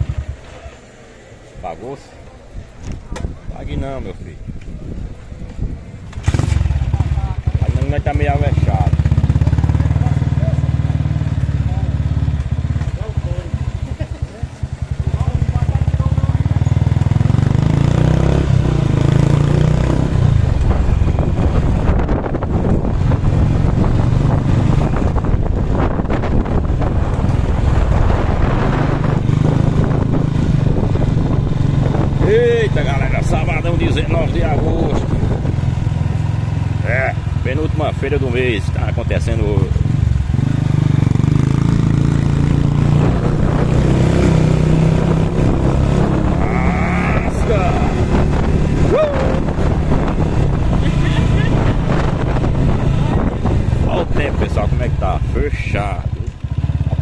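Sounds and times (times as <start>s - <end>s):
wind rushing over microphone: 2.5s - 10.0s, 14.6s - 57.0s
small motorcycle engine running: 6.1s - 57.0s.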